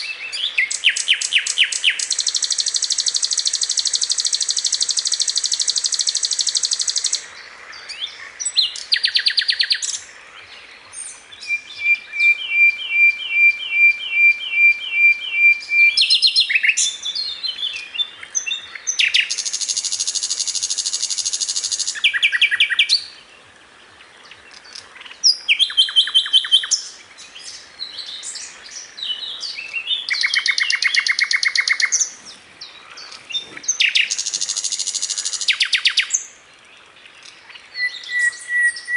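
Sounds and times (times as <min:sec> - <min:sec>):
bird singing trills: 0:00.0 - 0:23.2, 0:24.2 - 0:36.4, 0:37.2 - 0:38.9.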